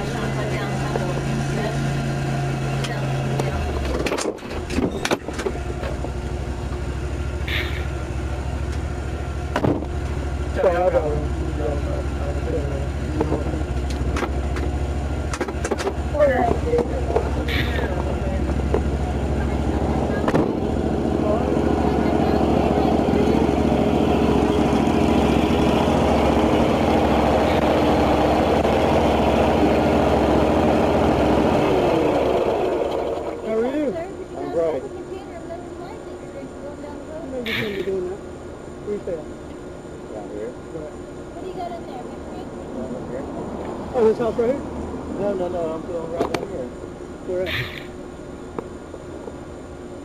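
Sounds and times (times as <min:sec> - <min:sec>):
vehicle engine hum: 0:00.0 - 0:50.0.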